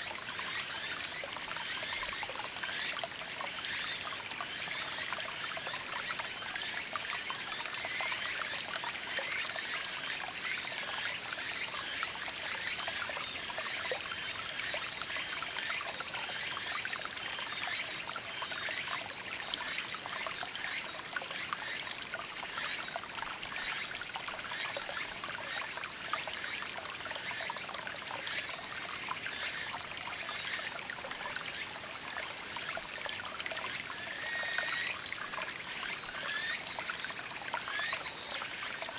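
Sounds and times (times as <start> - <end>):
stream babbling and trickling: 0.0 - 38.9.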